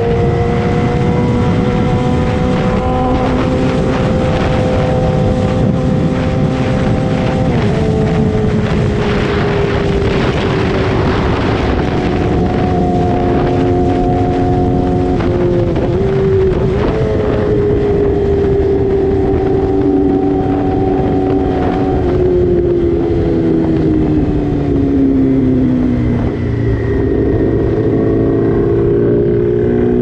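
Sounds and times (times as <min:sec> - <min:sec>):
motorcycle engine cruising: 0:00.0 - 0:30.0
wind rush: 0:00.0 - 0:30.0.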